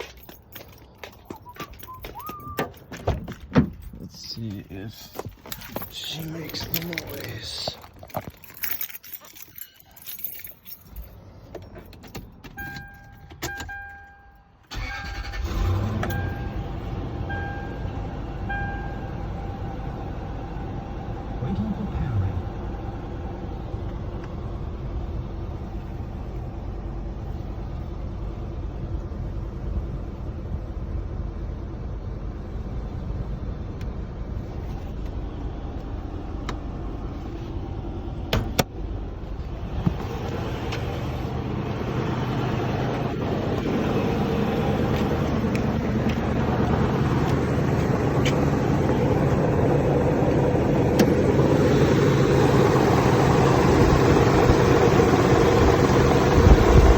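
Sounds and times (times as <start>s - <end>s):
vehicle engine rumbling: 0.0s - 56.9s.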